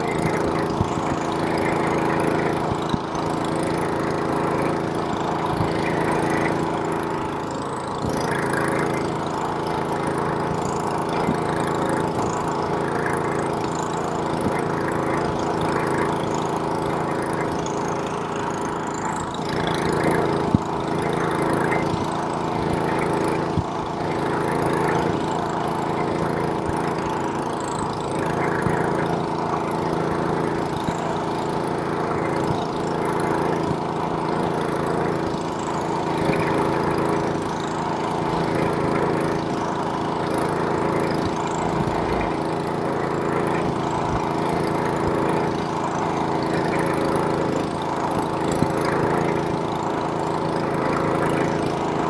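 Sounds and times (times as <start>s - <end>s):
snowblower engine running: 0.0s - 52.0s.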